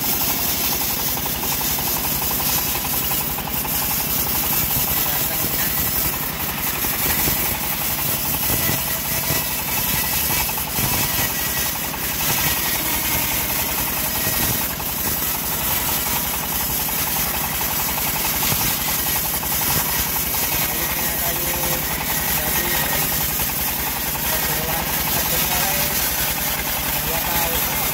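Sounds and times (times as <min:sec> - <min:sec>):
band sawmill cutting log: 0:00.0 - 0:27.9.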